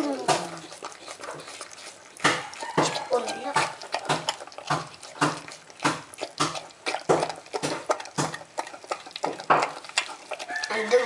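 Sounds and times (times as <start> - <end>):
dog licking puppy: 0.0 - 11.0.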